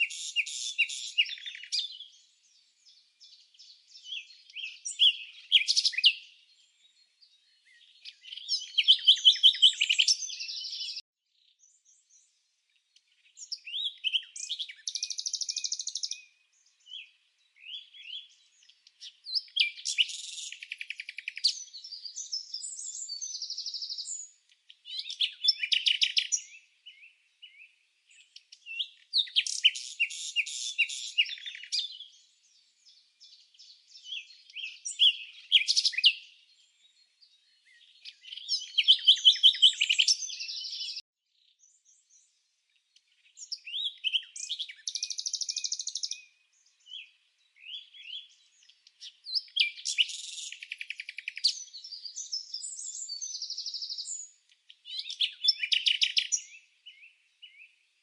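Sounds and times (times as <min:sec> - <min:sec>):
bird chirps and trills: 0:00.0 - 0:12.3, 0:13.1 - 0:42.3, 0:43.0 - 0:57.9.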